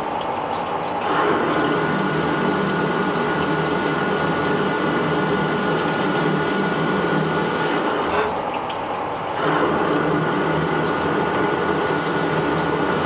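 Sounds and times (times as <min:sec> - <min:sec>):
coolant jet splashing: 0:00.0 - 0:13.0
lathe cutting metal with high whine: 0:01.1 - 0:08.2, 0:09.4 - 0:13.0.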